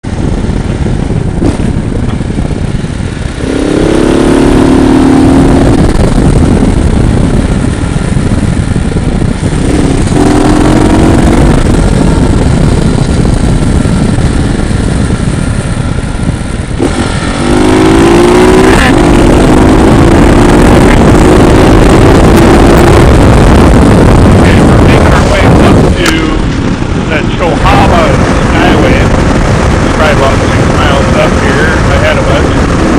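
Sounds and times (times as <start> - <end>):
motorcycle engine accelerating: 0.0 - 32.9
wind and road noise: 0.0 - 32.9.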